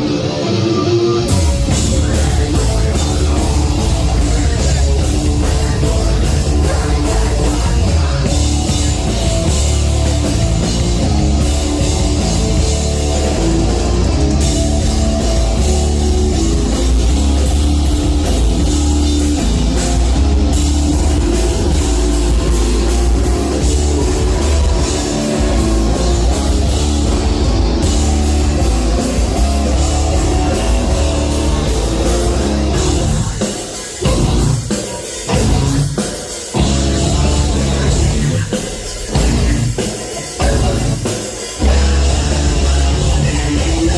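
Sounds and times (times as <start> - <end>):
bass guitar: 0.0 - 43.9
distorted guitars: 0.0 - 43.9
drum kit: 0.0 - 43.9.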